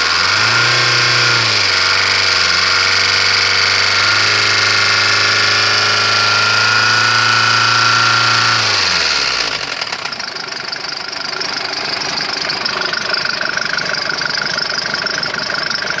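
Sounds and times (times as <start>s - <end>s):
diesel engine idling with knock: 0.0s - 16.0s.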